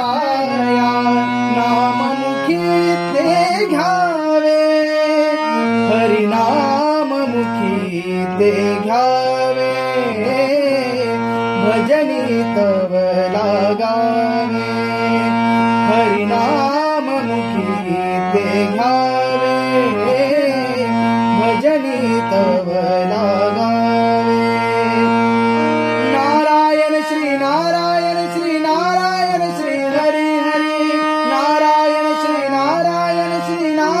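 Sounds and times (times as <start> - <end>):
ornamented melody: 0.0 - 34.0
person singing: 0.0 - 34.0.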